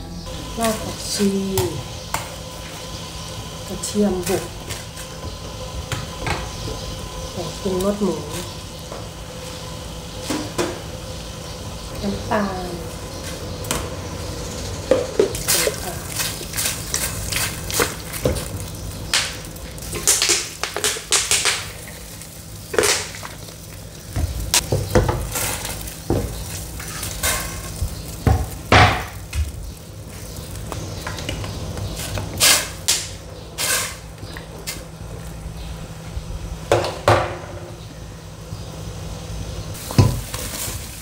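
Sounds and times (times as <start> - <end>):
steady low hum: 0.0 - 40.2.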